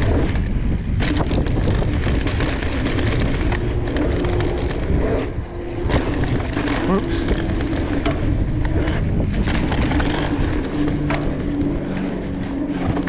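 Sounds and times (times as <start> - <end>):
bike clicks and rattles: 0.0 - 13.0
low whir: 0.0 - 13.0
tyres rumbling on dirt: 0.0 - 13.0
wind on microphone: 0.0 - 13.0.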